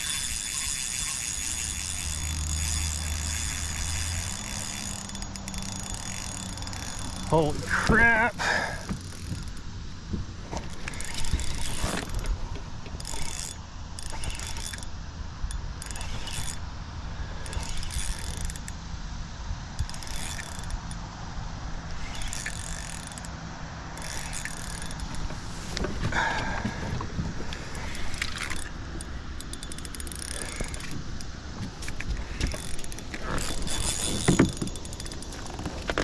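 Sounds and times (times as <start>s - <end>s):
fishing reel whirring and clicking: 0.0s - 9.6s, 10.6s - 16.6s, 17.3s - 18.8s, 19.8s - 21.0s, 21.8s - 25.3s, 27.5s - 36.0s.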